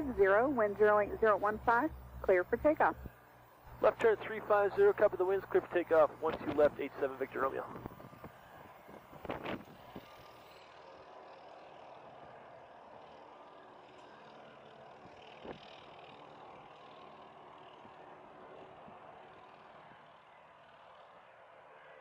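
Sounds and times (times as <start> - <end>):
distant jet engines whining: 0.0 - 22.0.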